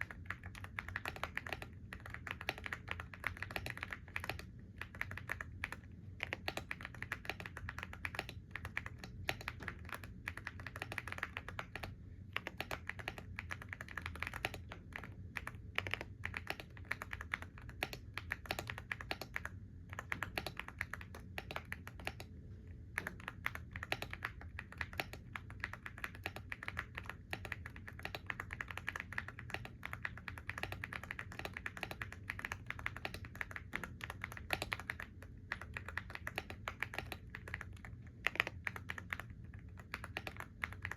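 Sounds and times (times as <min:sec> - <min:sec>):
typing on computer keyboard: 0:00.0 - 0:40.9.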